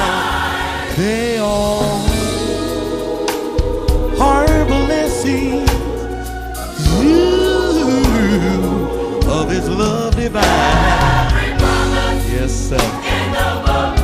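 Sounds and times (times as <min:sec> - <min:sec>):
group singing: 0:00.0 - 0:14.0
instrumental accompaniment: 0:00.1 - 0:14.0.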